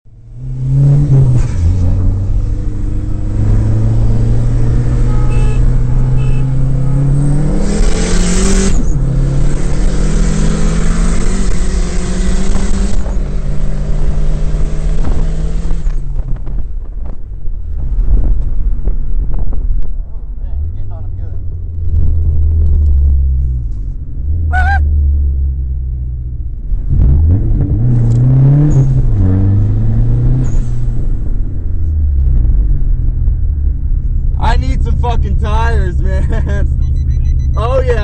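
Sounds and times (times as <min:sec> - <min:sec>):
car engine at full throttle: 0:00.0 - 0:38.0.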